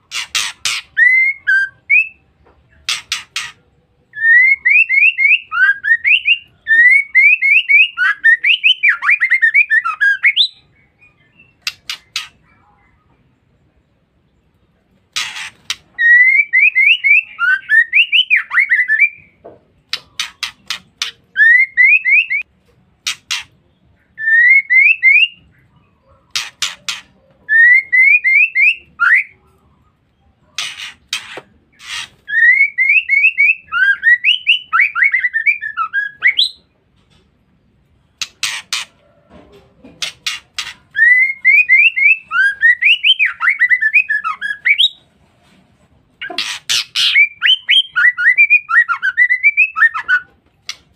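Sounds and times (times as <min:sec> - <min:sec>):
bird chirping and rasping: 0:00.0 - 0:12.7, 0:15.0 - 0:29.6, 0:30.4 - 0:37.3, 0:37.9 - 0:50.9.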